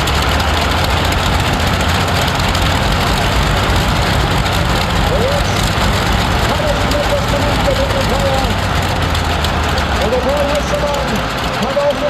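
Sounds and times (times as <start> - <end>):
tractor engine at full power: 0.0 - 12.0.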